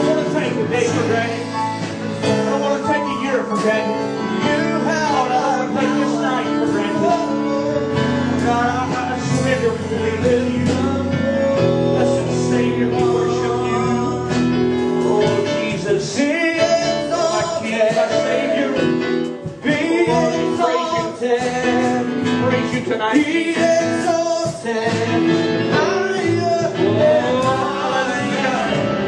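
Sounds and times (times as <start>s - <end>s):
band playing held chords: 0.0s - 29.0s
voices singing: 0.0s - 29.0s.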